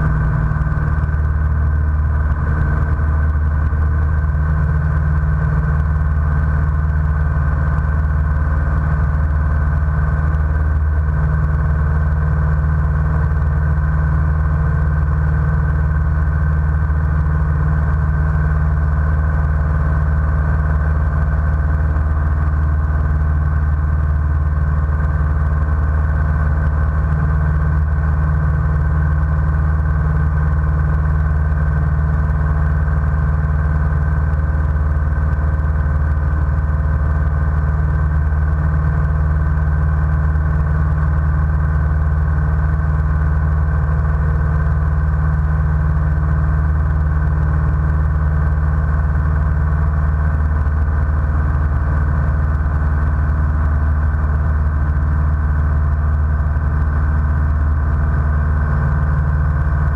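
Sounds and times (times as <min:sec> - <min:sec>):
airplane engine droning: 0:00.0 - 0:59.9.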